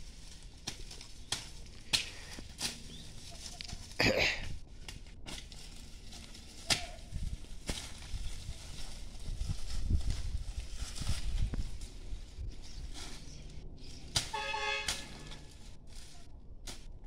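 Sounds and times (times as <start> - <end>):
dry vegetation snapping and crackling: 0.0 - 17.0
rustling crunch: 0.0 - 17.0.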